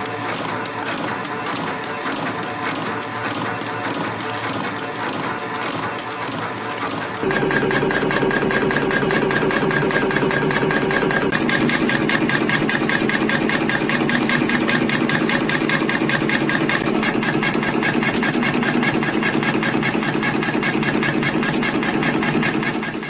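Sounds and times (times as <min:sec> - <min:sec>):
rapid even machine clicking: 0:00.0 - 0:23.0
steady mechanical hum: 0:00.0 - 0:23.0.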